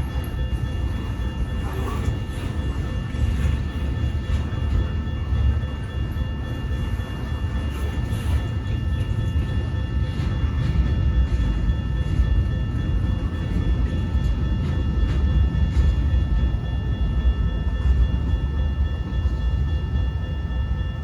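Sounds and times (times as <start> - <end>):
high steady tones: 0.0 - 21.0
train wheels rumbling on rails: 0.0 - 21.0.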